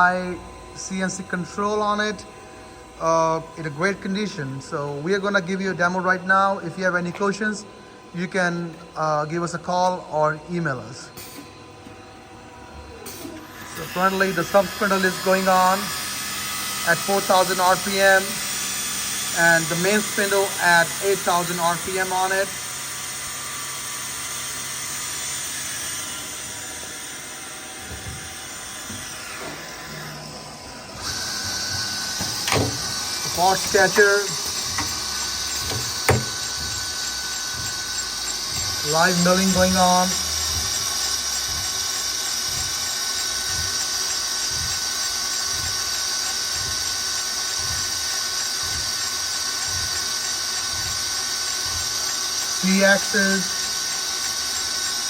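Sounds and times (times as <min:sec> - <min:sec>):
machine hissing and whining: 0:00.0 - 0:55.0.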